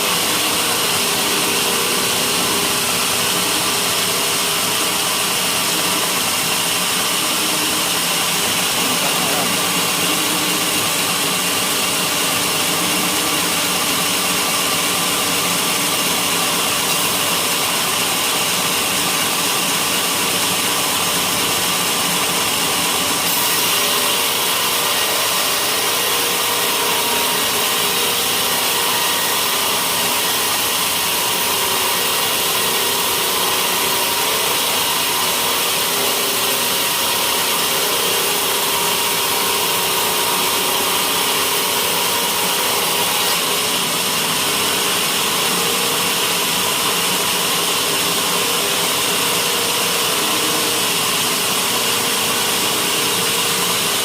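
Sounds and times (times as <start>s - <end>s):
sawmill saw cutting wood: 0.0s - 54.0s.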